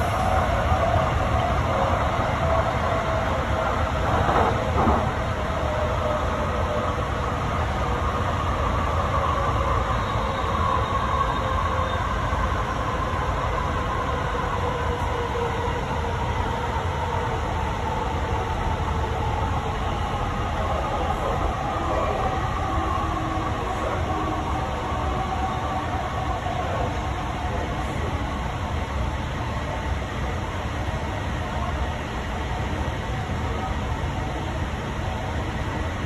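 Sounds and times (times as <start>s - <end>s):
train car rumble and whine: 0.0s - 36.0s.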